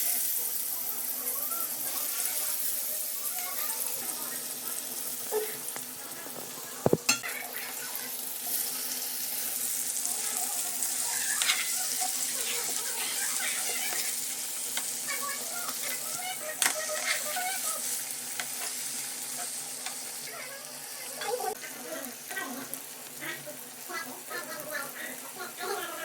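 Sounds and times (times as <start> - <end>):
oil sizzling in a pan: 0.0 - 26.0.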